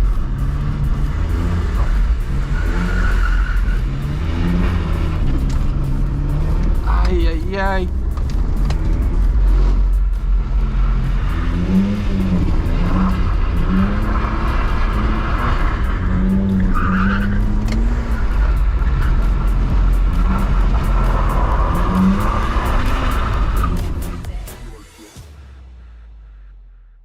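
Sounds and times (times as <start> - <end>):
tyres skidding: 0.0 - 25.1
car engine revving: 0.0 - 27.0.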